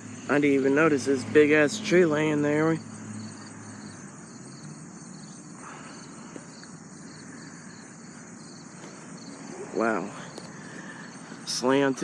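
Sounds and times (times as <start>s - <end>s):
crickets chirping: 0.0s - 12.0s
faint background noise: 0.0s - 12.0s.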